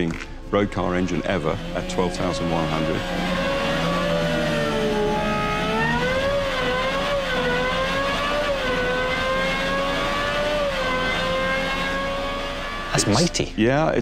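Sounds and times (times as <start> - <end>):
car engine running on a dynamometer: 0.8 - 13.3.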